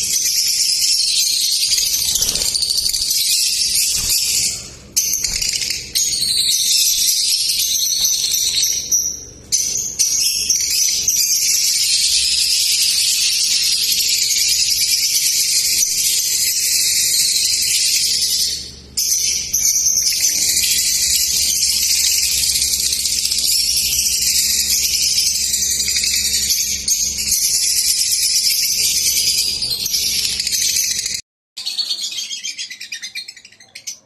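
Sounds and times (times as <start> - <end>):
lovebirds chirping: 0.0 - 34.0.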